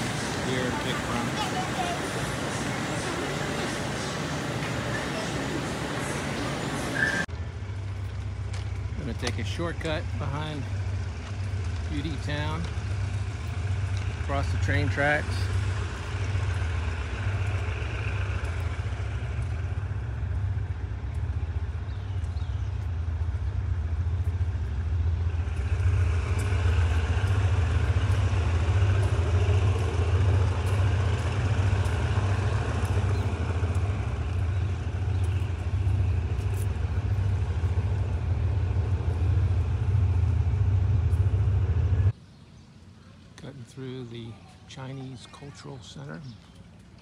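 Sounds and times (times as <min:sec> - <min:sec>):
freight train rumbling: 0:00.0 - 0:42.2.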